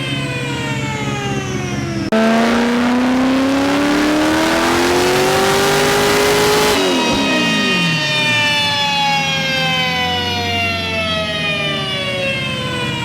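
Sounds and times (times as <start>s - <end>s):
engine revving on a dyno: 0.4s - 13.0s.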